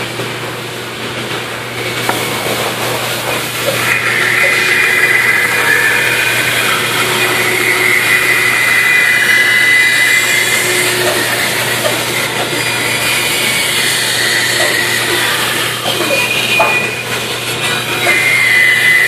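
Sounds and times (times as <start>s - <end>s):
band saw cutting wood: 2.1s - 19.0s.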